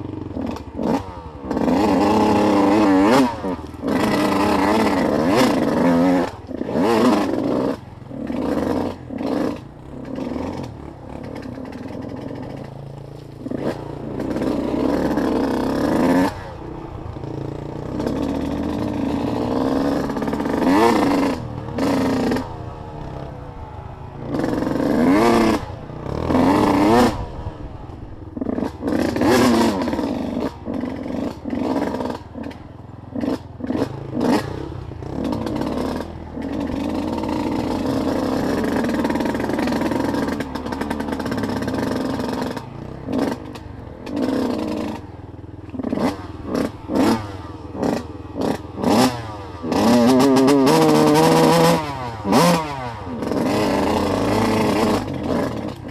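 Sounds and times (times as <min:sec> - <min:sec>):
vehicle engine revving: 0:00.0 - 0:55.9.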